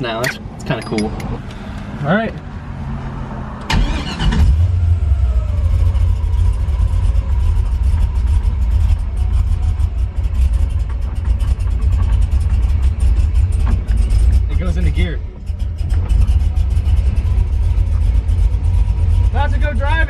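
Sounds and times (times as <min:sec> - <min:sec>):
engine deep idle: 0:03.8 - 0:20.0.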